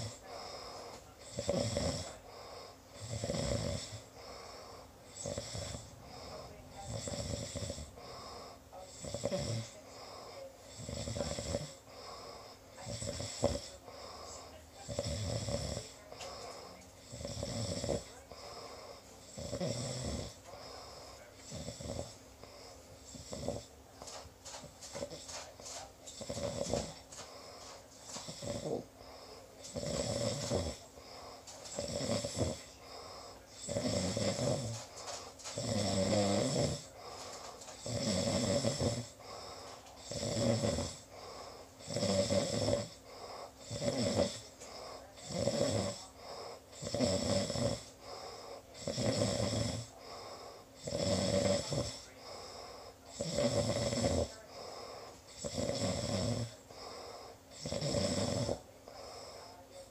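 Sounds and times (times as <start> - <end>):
person snoring: 0.0 - 59.9.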